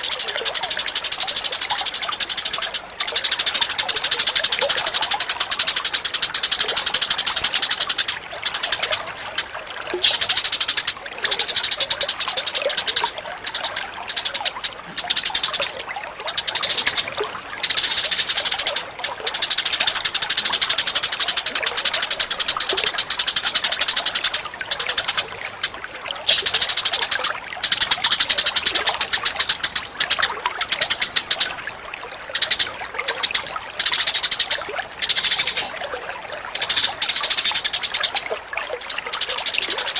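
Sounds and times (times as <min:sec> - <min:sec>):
rapid chattering bird calls: 0:00.0 - 0:31.6, 0:32.2 - 0:35.8, 0:36.4 - 0:39.9.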